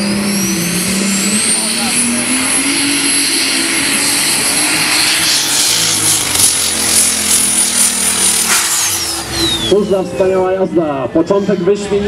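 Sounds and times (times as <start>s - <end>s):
tractor engine running loudly: 0.0s - 12.0s.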